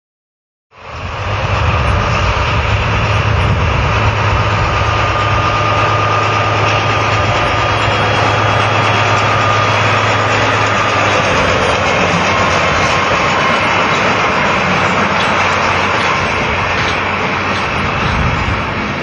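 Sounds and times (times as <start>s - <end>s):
diesel locomotive engine running: 0.7s - 19.0s
high whine: 0.7s - 19.0s.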